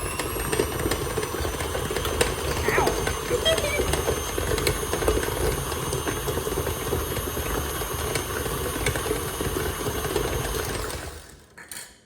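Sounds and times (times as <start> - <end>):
electric mixer motor running: 0.0 - 11.4.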